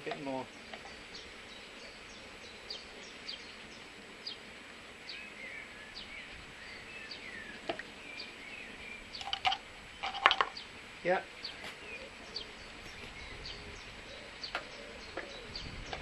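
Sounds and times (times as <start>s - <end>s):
small birds chirping: 0.0s - 16.0s
steady hiss: 0.0s - 16.0s.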